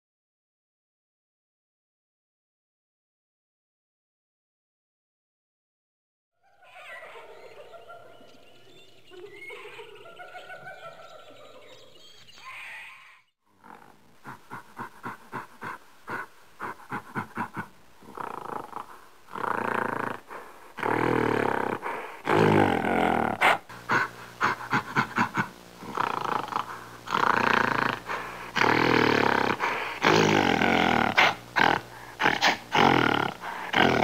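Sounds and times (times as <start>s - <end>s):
wavering animal calls: 6.4s - 34.0s.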